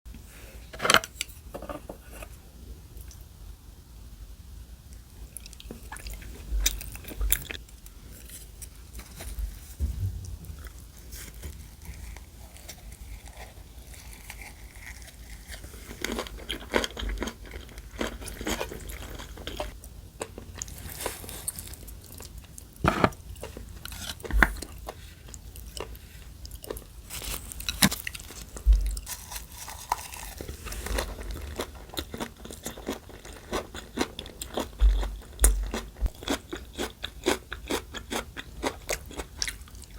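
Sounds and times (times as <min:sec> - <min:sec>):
chewing with crunchy bites: 0:05.3 - 0:09.8, 0:11.7 - 0:39.9.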